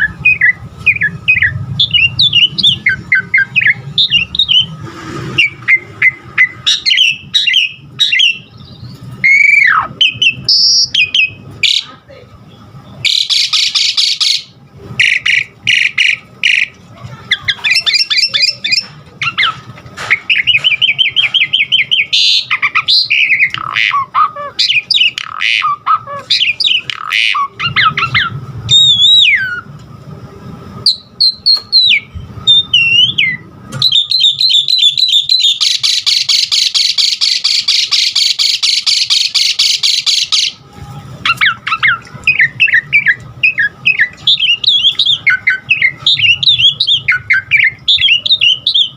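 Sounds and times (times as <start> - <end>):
bird singing whistles and squawks: 0.0 - 11.9, 13.0 - 16.7, 17.3 - 29.7, 30.8 - 40.6, 41.2 - 48.9.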